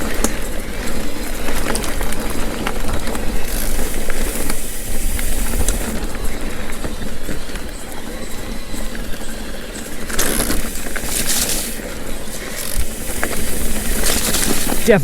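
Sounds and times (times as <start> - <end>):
bike rattle: 0.0 - 15.0
tyres on dirt trail: 0.0 - 15.0
wind rush on microphone: 0.0 - 15.0.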